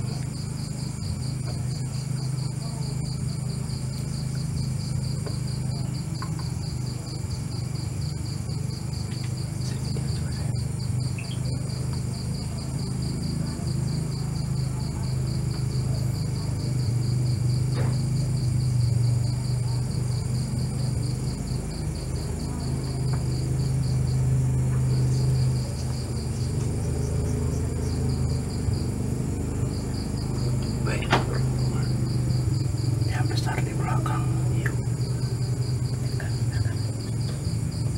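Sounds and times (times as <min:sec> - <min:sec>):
insect trilling: 0:00.0 - 0:37.9.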